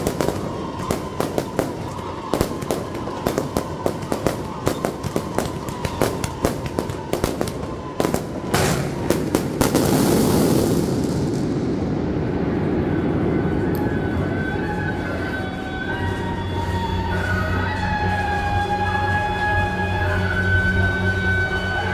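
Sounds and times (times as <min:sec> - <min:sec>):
firecrackers banging and crackling: 0:00.0 - 0:18.8.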